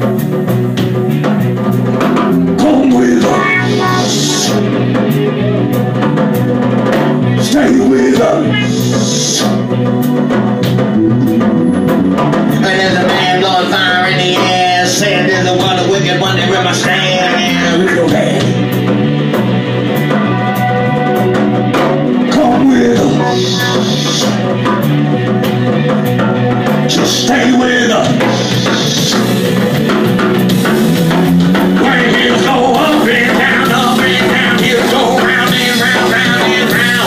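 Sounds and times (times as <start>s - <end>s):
drum kit with cymbals: 0.0s - 37.0s
low bass line: 0.0s - 37.0s.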